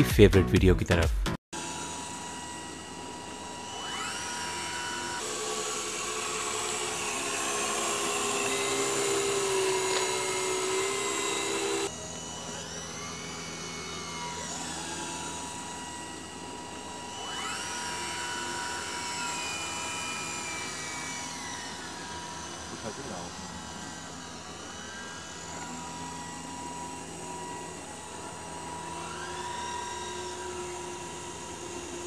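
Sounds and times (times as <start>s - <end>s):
mechanical whine and hum: 1.6s - 32.0s.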